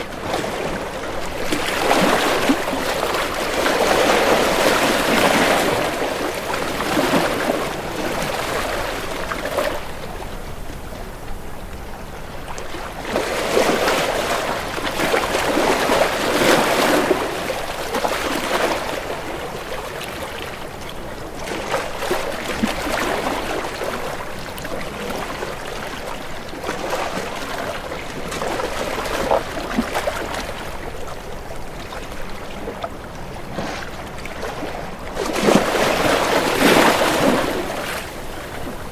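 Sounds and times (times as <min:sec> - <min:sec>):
water lapping and splashing: 0:00.0 - 0:38.9.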